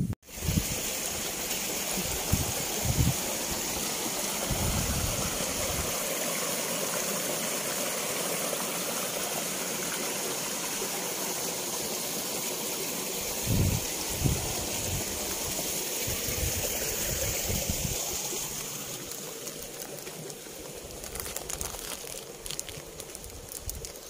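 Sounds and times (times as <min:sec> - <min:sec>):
stream rushing over rocks: 0:00.2 - 0:24.0.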